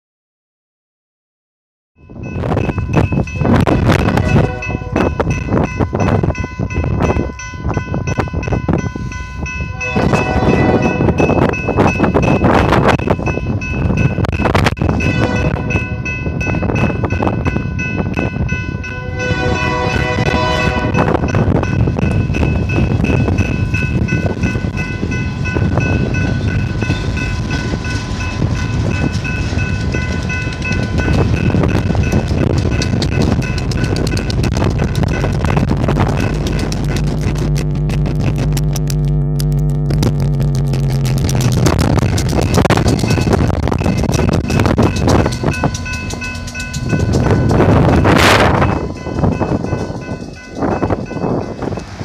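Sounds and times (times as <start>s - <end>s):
high ringing tones: 2.0s - 37.2s, 38.6s - 52.0s
freight train passing on rails: 2.0s - 39.4s, 40.2s - 52.0s
wind buffeting microphone: 2.0s - 52.0s.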